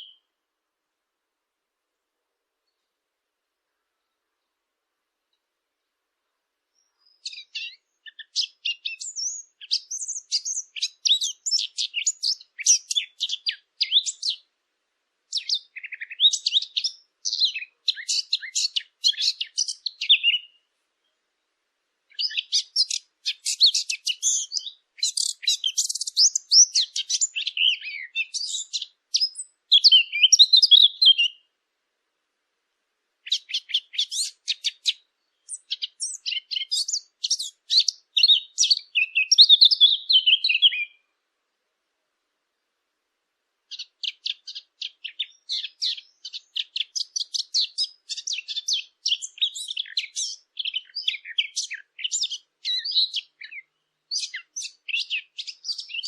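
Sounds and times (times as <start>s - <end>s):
small birds chirping: 0.0s - 0.5s, 2.4s - 14.6s, 15.2s - 31.6s, 33.2s - 41.3s, 43.5s - 56.0s.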